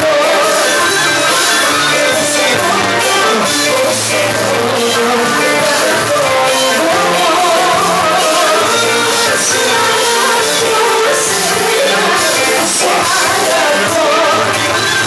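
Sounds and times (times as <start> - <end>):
live band with plucked strings: 0.0 - 15.0
person singing: 0.0 - 15.0.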